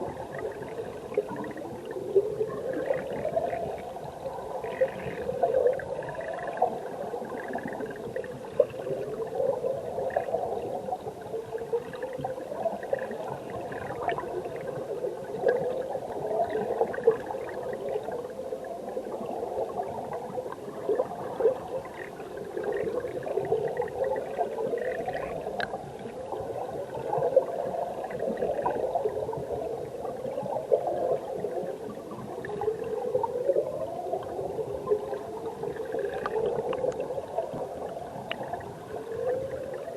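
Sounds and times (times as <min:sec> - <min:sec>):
underwater stream bubbling: 0:00.0 - 0:39.9.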